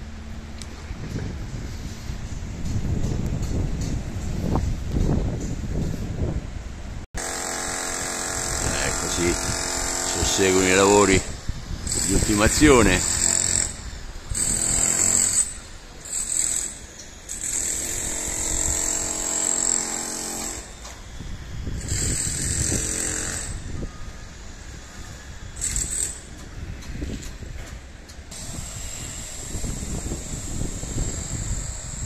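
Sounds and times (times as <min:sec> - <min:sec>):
outdoor rumble and hiss in gusts: 0:00.0 - 0:32.0.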